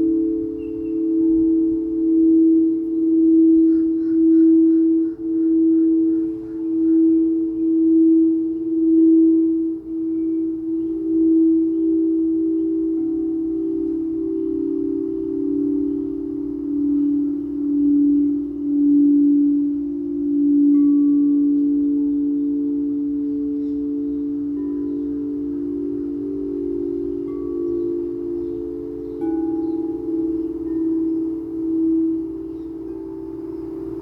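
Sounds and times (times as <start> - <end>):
faint high tinkling: 0.0 - 3.7, 5.2 - 34.0
singing bowl ringing: 0.0 - 34.0.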